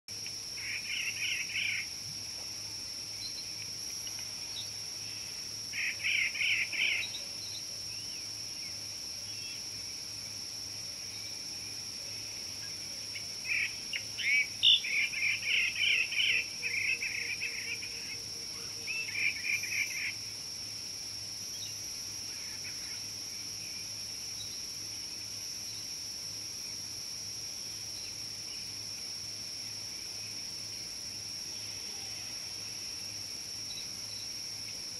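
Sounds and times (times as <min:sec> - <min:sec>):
insect high-pitched drone: 0:00.1 - 0:34.9.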